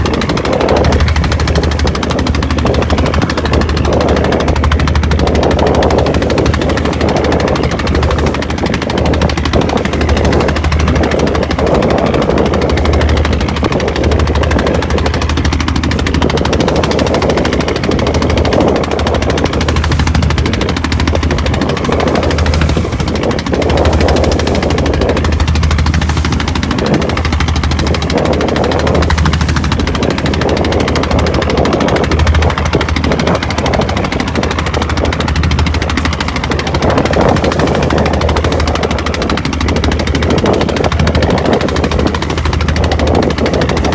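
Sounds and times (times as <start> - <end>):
boat engine running with knocking: 0.0 - 43.9.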